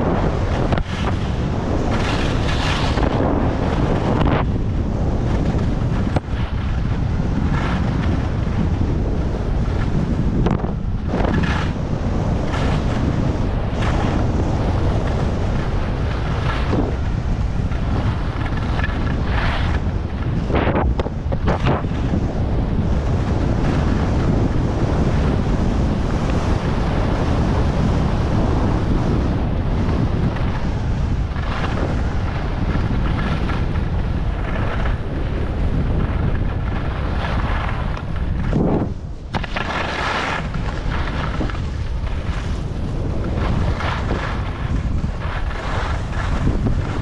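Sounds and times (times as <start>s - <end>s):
skis scraping across snow: 0.0s - 47.0s
wind buffeting microphone: 0.0s - 47.0s.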